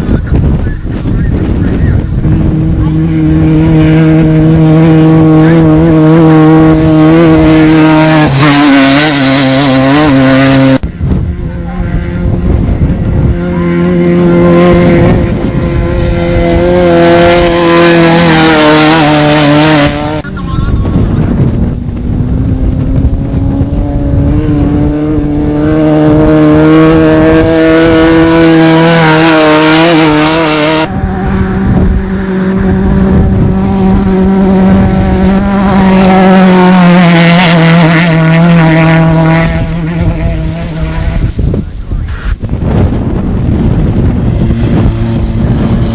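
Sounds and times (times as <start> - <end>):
race vehicle engines revving hard: 0.0 - 45.9.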